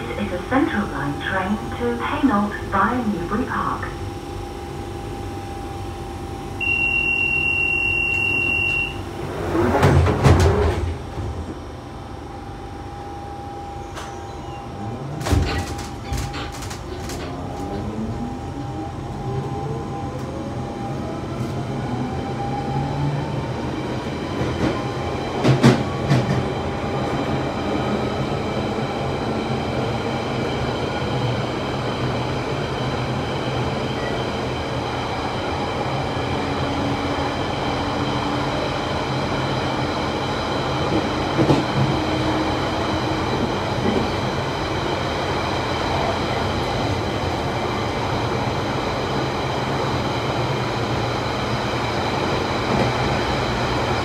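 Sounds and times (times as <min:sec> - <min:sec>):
train running on track: 0:00.0 - 0:54.0.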